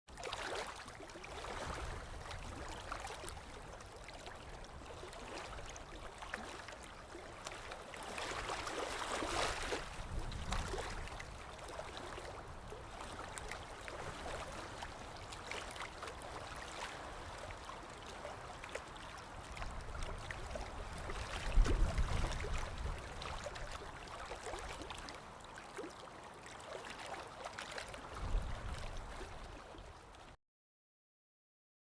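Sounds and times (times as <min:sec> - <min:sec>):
water gurgles and splashes: 0:00.1 - 0:30.3
river water running: 0:00.1 - 0:30.4.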